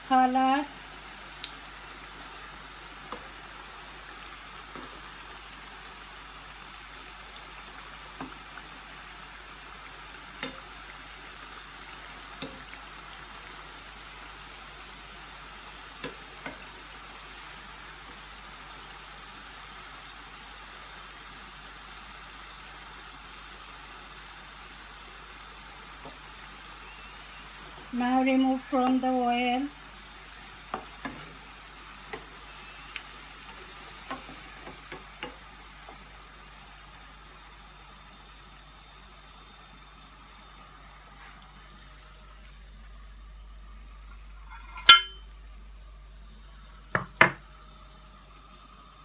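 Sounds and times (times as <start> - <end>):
pastries deep-frying in hot oil: 0.0 - 49.0
sharp ticks of frying oil: 0.0 - 49.0.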